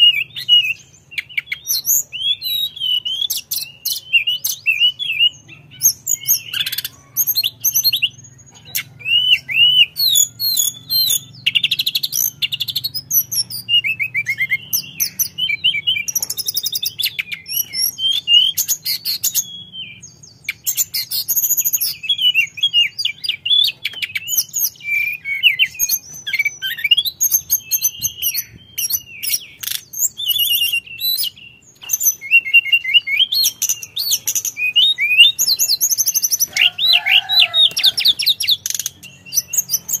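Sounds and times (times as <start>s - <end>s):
bird singing whistled trills: 0.0s - 40.0s.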